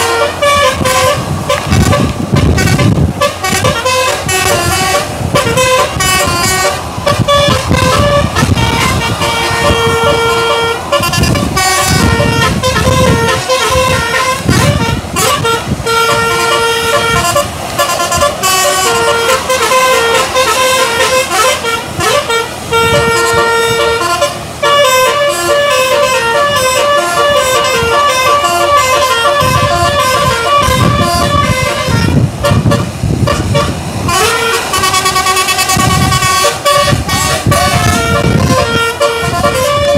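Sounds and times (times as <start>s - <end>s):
bus musical air horn: 0.0s - 39.9s.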